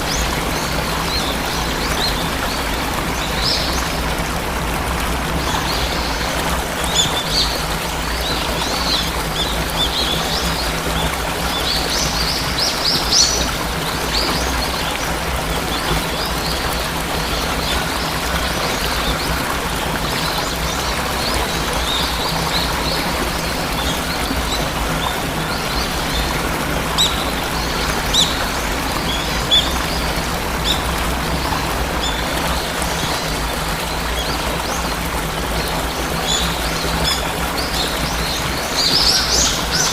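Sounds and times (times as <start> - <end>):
waterfall rushing: 0.0 - 39.9
small birds chirping: 5.3 - 39.9.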